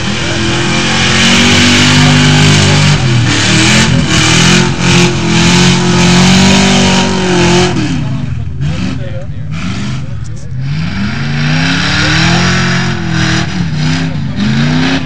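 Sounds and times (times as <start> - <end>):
truck engine revving in mud: 0.0 - 15.0.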